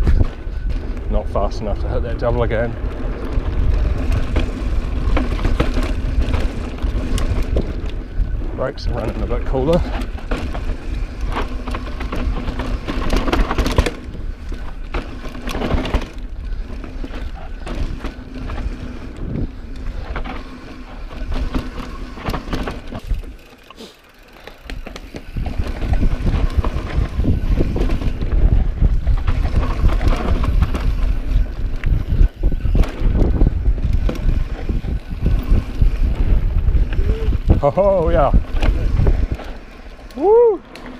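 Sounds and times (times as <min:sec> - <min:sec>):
bike clattering over bumps: 0:00.0 - 0:40.9
bike tyres rolling on dirt: 0:00.0 - 0:40.9.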